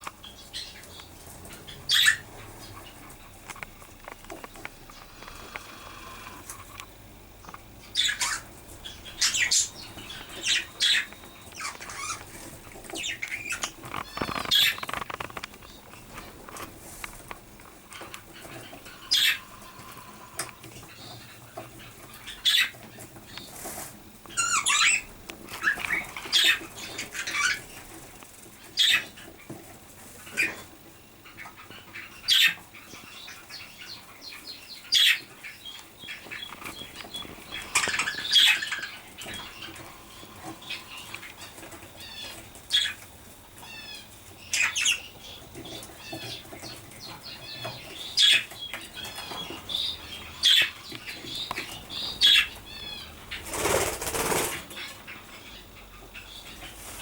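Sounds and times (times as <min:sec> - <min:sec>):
budgerigars chirping and squawking: 0:00.0 - 0:17.0, 0:17.8 - 0:57.0.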